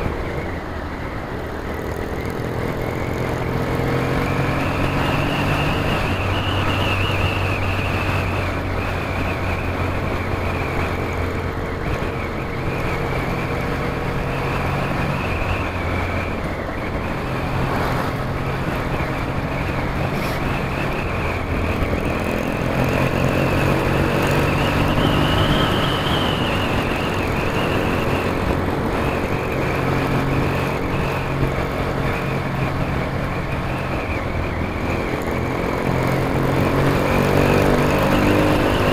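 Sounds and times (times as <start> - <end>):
motorcycle engine drone: 0.0 - 38.9
rushing wind noise: 0.0 - 38.9.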